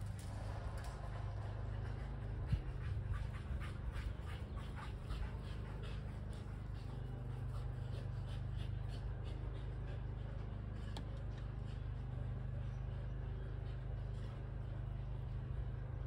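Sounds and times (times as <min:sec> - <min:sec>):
dog panting: 0:00.8 - 0:15.3.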